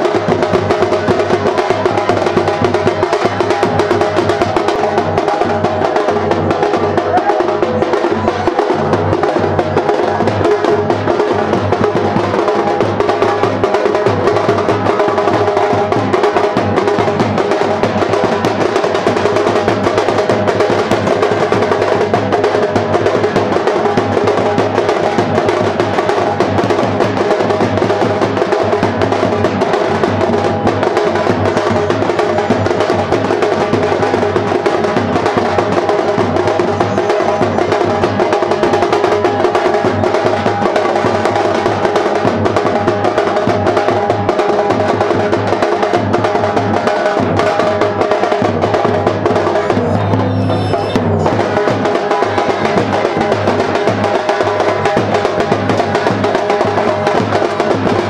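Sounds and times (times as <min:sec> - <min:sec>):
band drums playing fast beat: 0:00.0 - 0:58.0.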